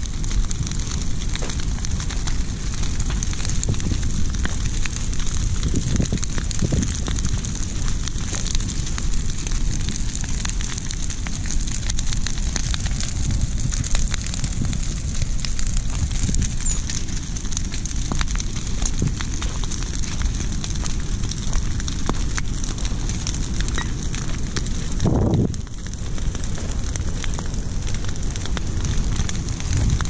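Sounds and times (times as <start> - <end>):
fire crackling and popping: 0.0 - 30.0
fire low rumble: 0.0 - 30.0.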